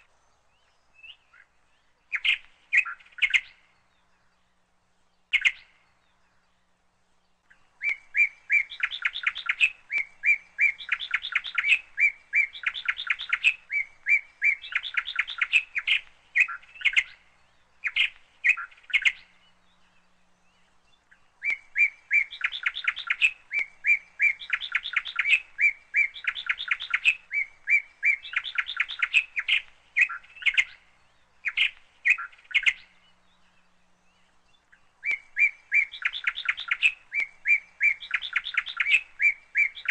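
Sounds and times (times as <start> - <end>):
bird twittering: 0.0 - 4.3, 5.3 - 6.4, 7.5 - 39.9.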